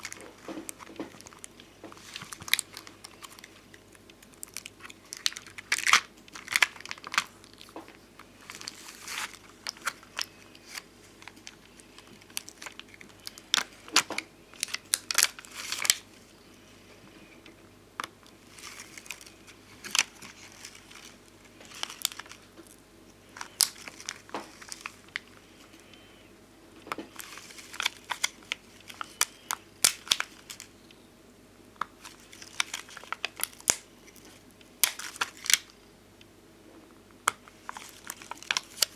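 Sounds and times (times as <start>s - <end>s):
stickers peeling: 0.0s - 16.1s, 17.4s - 26.1s, 26.9s - 30.7s, 31.8s - 35.8s, 37.3s - 38.9s
sticker sheets crinkling: 0.0s - 26.2s, 26.8s - 30.7s, 31.8s - 35.8s, 37.2s - 38.9s.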